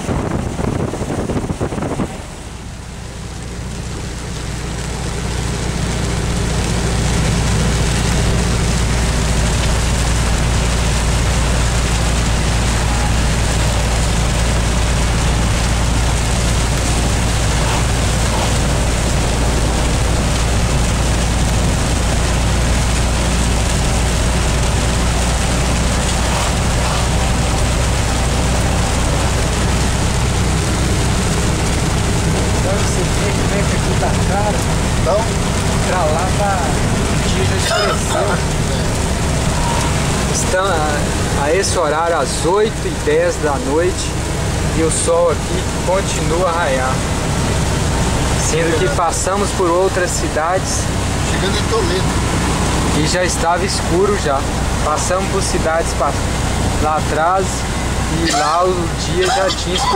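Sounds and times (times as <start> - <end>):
engine and tyre rumble: 0.0 - 59.9
wet road hiss: 1.7 - 59.9.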